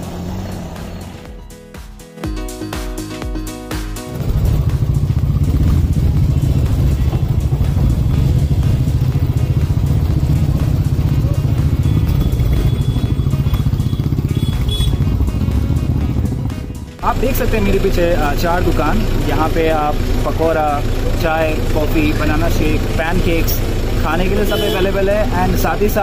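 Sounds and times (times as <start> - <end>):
motorcycle engines rumbling: 0.0 - 1.5, 4.1 - 26.0.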